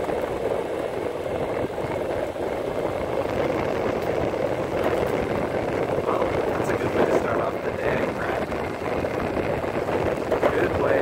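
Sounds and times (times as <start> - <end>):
skateboard wheels rolling on pavement: 0.0 - 11.0.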